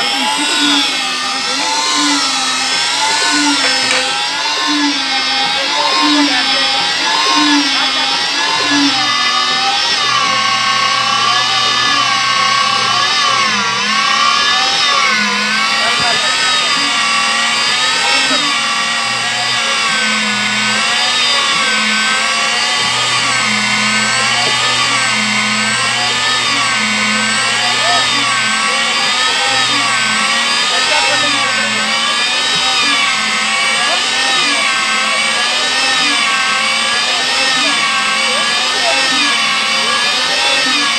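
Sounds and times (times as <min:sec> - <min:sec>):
wavering motor whine: 0:00.0 - 0:40.9.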